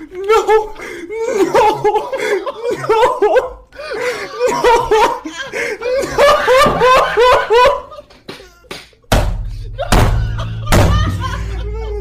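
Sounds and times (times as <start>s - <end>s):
person sobbing: 0.0s - 8.7s, 9.5s - 12.0s.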